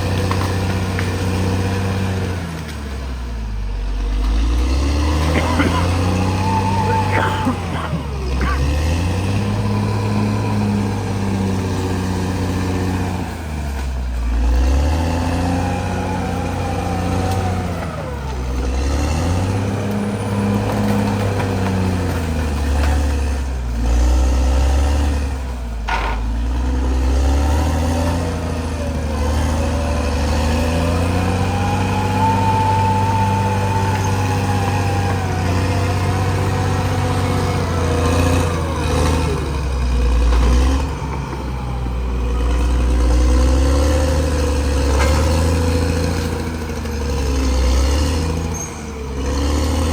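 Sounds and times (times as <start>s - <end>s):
bulldozer diesel engine working: 0.0s - 49.9s.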